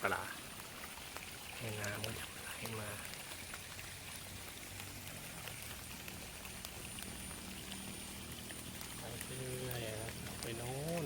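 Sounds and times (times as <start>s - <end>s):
water flowing through weir: 0.0s - 11.0s.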